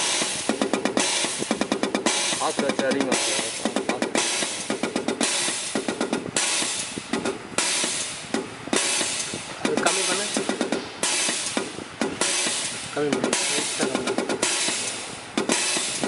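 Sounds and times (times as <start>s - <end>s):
hiss of spray: 0.0s - 16.0s.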